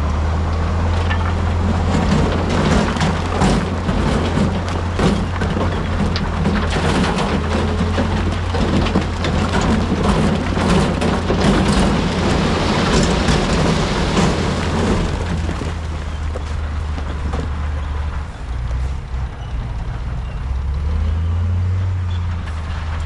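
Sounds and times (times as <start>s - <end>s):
diesel machinery engine running: 0.0s - 23.0s
rock tumbling and sliding: 0.8s - 19.5s.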